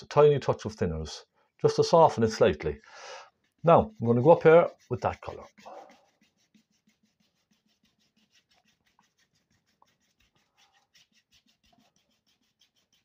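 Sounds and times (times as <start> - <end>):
paintbrush scratching on canvas: 1.6 - 13.0.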